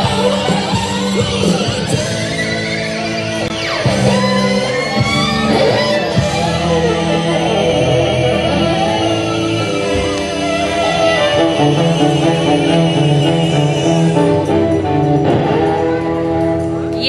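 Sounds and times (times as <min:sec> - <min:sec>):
backing track with guitar: 0:00.0 - 0:17.0.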